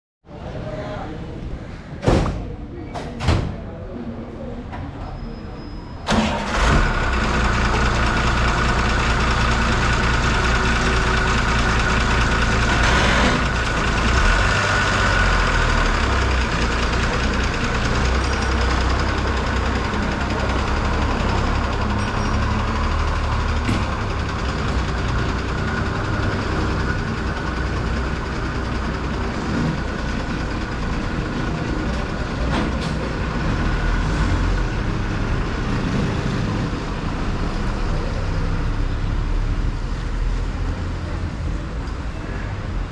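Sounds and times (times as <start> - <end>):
diesel bus engine idling: 6.0 - 42.9.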